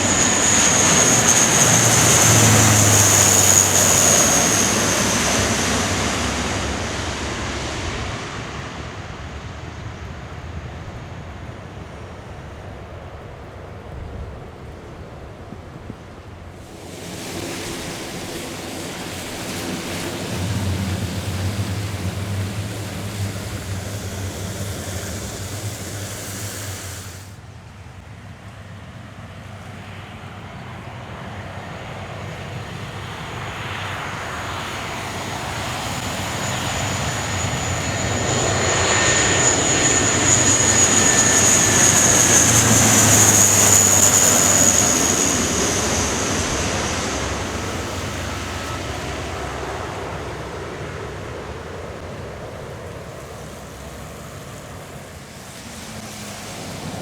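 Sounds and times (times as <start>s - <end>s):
high turbine whine: 0.0s - 13.3s, 16.4s - 27.6s, 31.8s - 57.0s
turboprop aircraft propeller hum: 0.0s - 57.0s.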